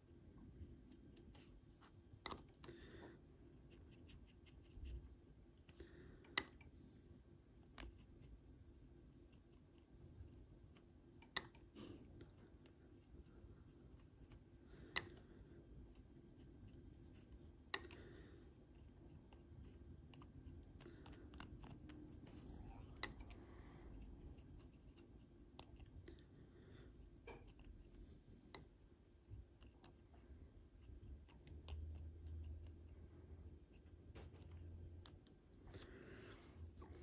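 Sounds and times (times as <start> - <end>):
faint ticks and scratches: 0.2 - 36.0.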